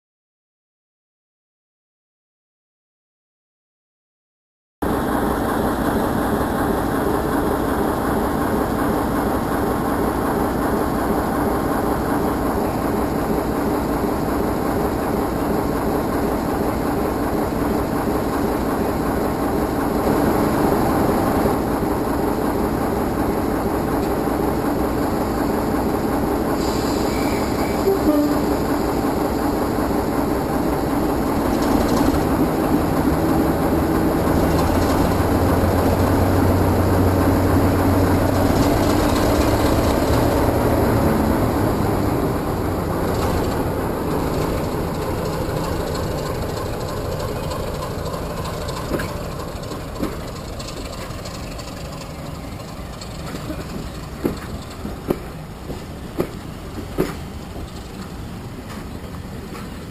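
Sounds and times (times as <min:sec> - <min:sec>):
diesel locomotive idling: 0:04.8 - 0:59.9.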